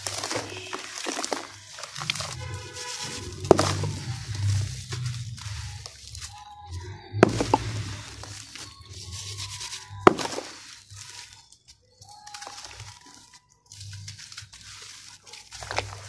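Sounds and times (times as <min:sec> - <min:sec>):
dirt crumbling and pattering into water: 0:00.0 - 0:16.0
dirt lump cracking: 0:00.0 - 0:16.0.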